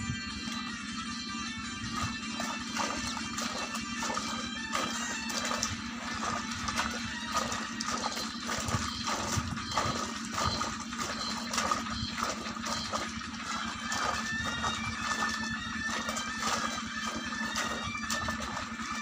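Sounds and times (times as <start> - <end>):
water sloshing underfoot: 0.2 - 19.0.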